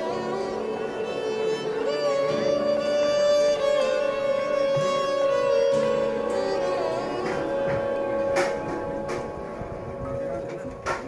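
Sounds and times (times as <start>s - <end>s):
mournful bowed-string melody: 0.0s - 11.0s.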